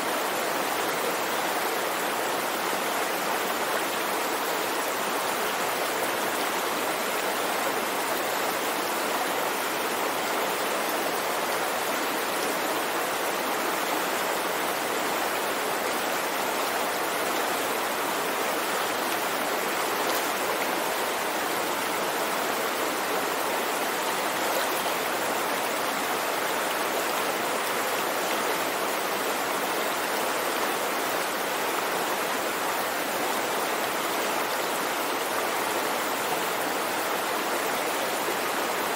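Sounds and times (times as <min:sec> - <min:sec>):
river flowing over stones: 0:00.0 - 0:38.9.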